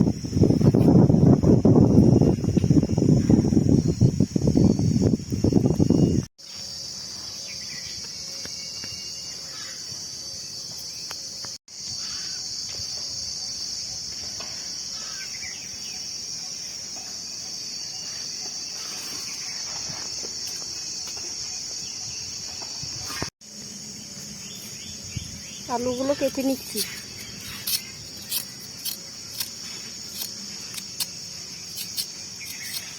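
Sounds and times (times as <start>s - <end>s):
insect chirring: 0.0s - 32.9s.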